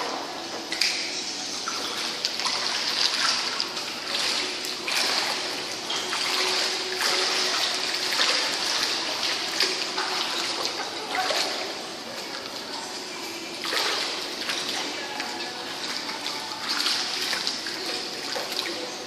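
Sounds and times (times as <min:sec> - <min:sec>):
water splashing from swimming: 0:00.0 - 0:19.0.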